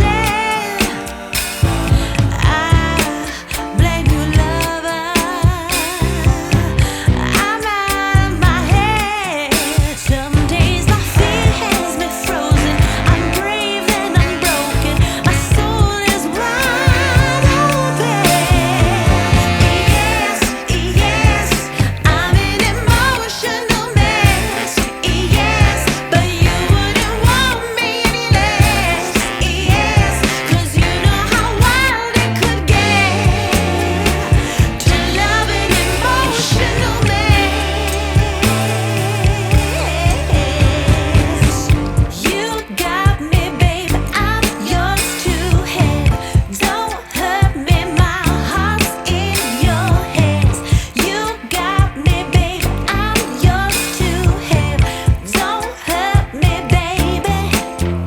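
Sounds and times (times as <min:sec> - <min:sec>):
pop song with singing: 0:00.0 - 0:58.0.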